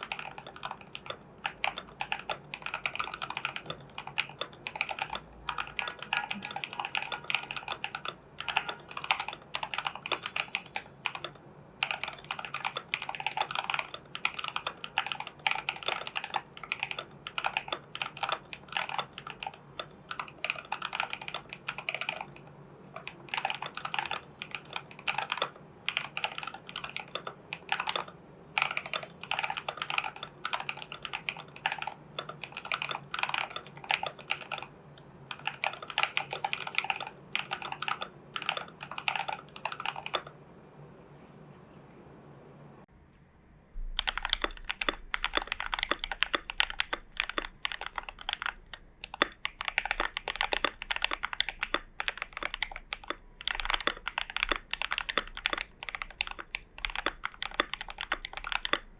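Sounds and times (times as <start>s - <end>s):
mechanical keyboard typing: 0.0s - 40.4s, 43.9s - 58.9s.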